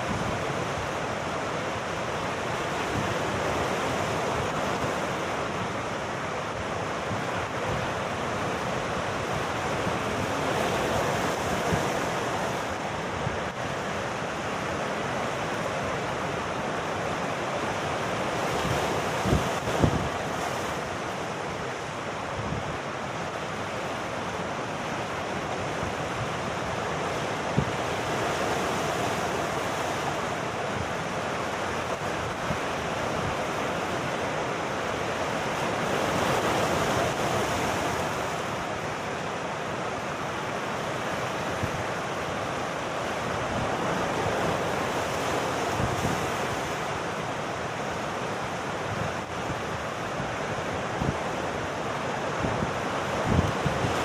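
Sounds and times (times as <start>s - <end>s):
sea surf breaking over rocks: 0.0s - 54.0s.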